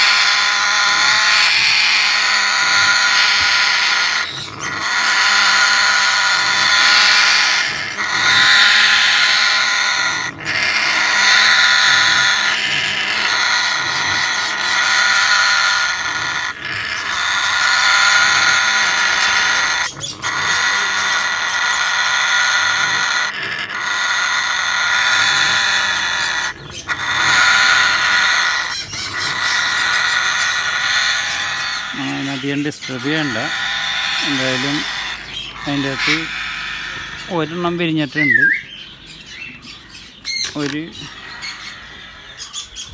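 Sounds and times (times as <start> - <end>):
parrot squealing: 0.0 - 42.9.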